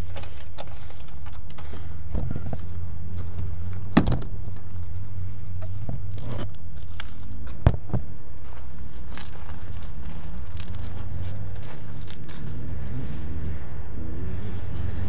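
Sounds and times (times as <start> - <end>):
steady low hum: 0.0 - 15.0
thin high whine: 0.0 - 15.0.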